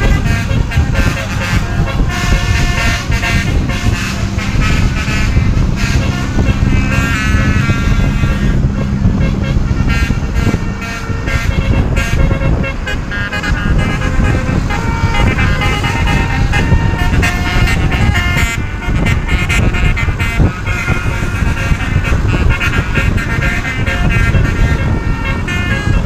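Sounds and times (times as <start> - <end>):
low rumble: 0.0 - 26.0
multi-tone vehicle horn tune: 0.0 - 26.0.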